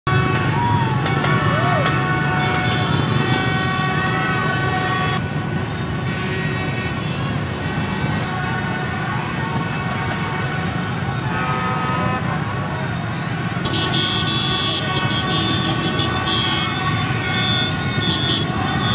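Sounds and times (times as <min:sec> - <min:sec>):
motorbike engines rumbling: 0:00.1 - 0:18.9
motorbike horns honking: 0:00.1 - 0:18.9.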